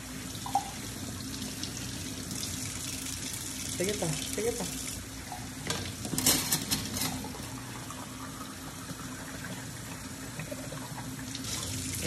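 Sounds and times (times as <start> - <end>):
faucet water splashing: 0.3 - 6.0, 7.2 - 12.0.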